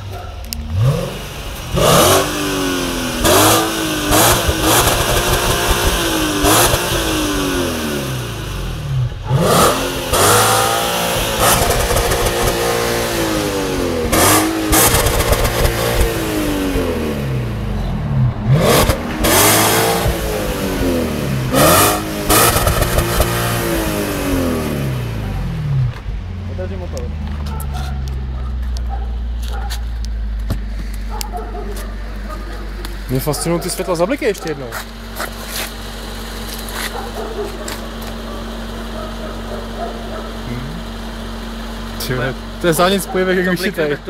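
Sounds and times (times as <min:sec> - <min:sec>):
car engine revving: 0:00.0 - 0:44.0
rev limiter blasts: 0:00.0 - 0:44.0.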